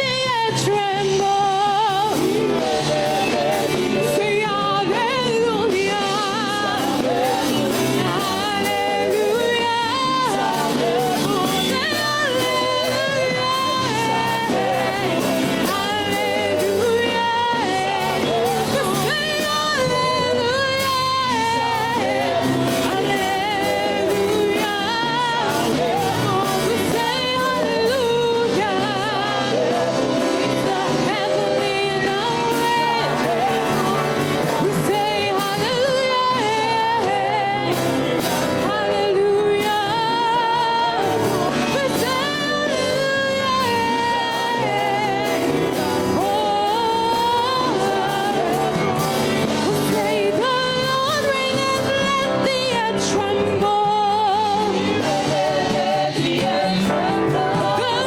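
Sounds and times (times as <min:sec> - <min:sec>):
band accompaniment: 0:00.0 - 0:58.0
voices singing worship music: 0:00.0 - 0:58.0.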